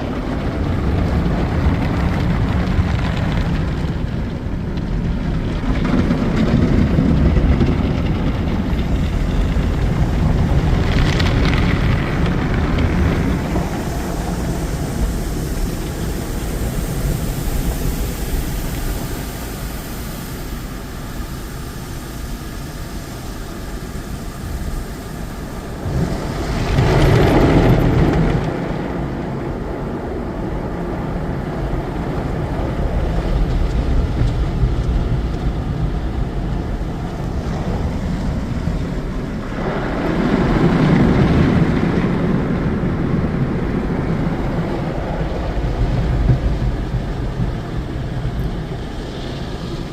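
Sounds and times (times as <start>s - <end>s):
car wash spray and machinery: 0.0s - 49.9s.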